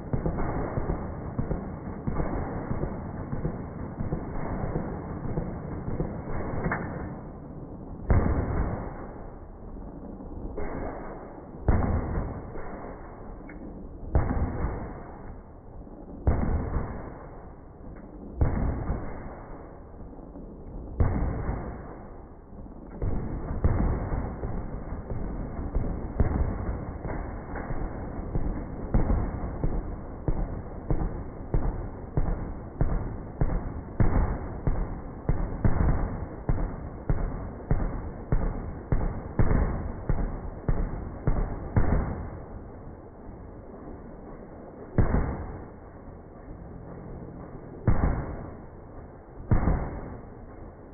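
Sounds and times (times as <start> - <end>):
slowed machine gun booms: 0.0 - 50.9.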